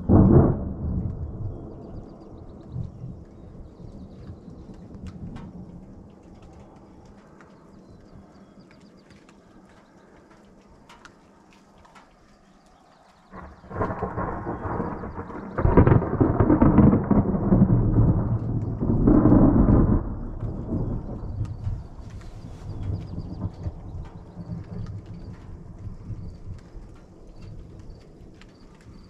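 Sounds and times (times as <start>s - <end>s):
thunder rumbling: 0.0s - 8.8s, 13.3s - 29.0s.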